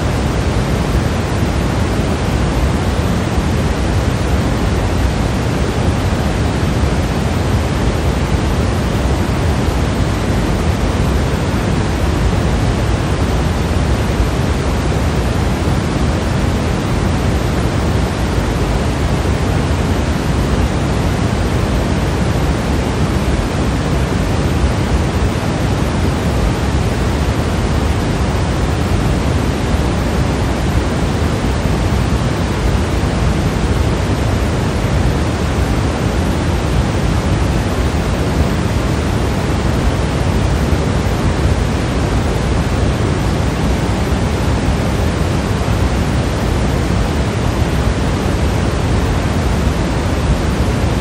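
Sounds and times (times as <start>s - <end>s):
pink noise hiss: 0.0s - 51.0s.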